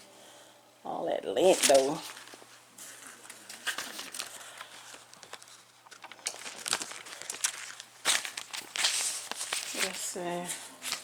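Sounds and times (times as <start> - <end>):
lint roller sheet crinkling: 1.4 - 11.0.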